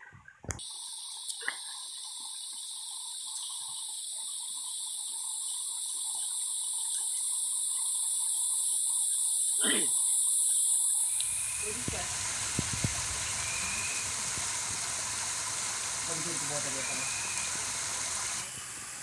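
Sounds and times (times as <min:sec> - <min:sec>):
small waterfall splashing: 0:00.0 - 0:07.5, 0:11.0 - 0:19.0.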